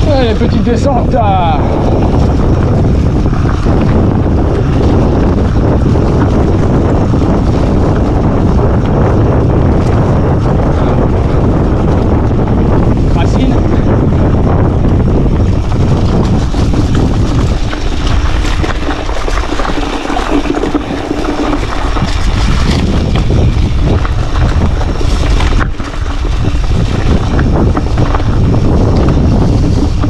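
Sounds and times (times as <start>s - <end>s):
bike rattling over stones: 0.0s - 30.0s
low rumble: 0.0s - 30.0s
wind on microphone: 0.0s - 30.0s.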